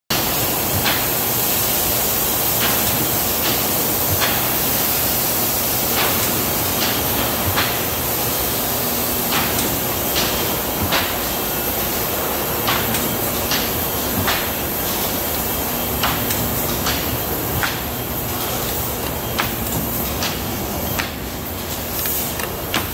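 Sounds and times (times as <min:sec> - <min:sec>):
printing press clicks and knocks: 0:00.1 - 0:01.3, 0:02.5 - 0:04.9, 0:05.8 - 0:08.0, 0:09.2 - 0:22.9
printing press hum and hiss: 0:00.1 - 0:22.9.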